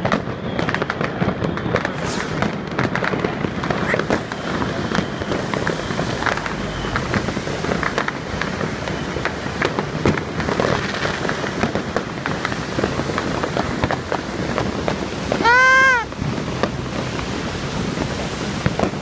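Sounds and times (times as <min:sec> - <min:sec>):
firecrackers crackling: 0:00.0 - 0:19.0
steady noisy background: 0:00.0 - 0:19.0.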